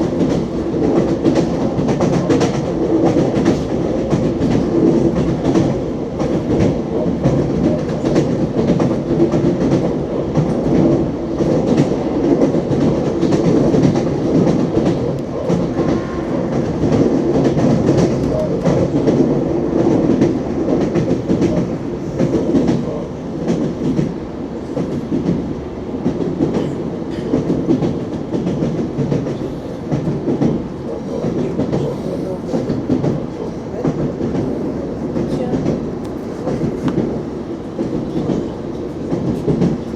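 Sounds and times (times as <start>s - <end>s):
electric train rumble: 0.0s - 39.9s.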